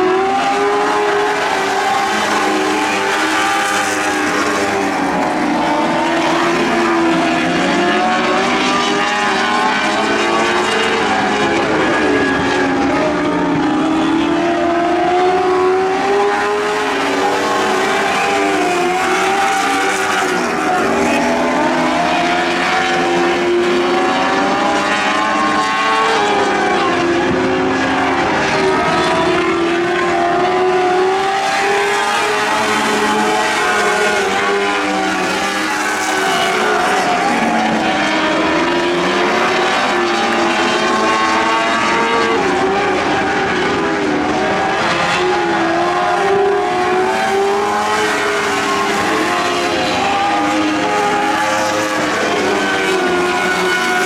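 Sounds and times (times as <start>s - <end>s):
racing engines passing: 0.0s - 54.0s.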